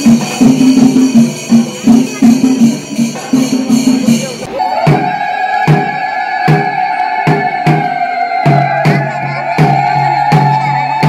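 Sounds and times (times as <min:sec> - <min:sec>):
drum beat: 0:00.0 - 0:11.0.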